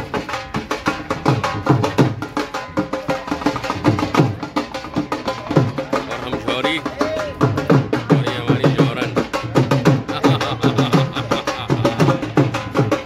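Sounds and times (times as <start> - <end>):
music with fast drum beat: 0.0 - 13.0.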